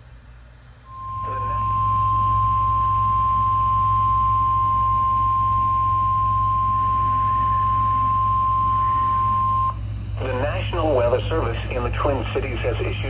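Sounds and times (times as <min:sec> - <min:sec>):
steady high alarm tone: 0:00.9 - 0:12.2.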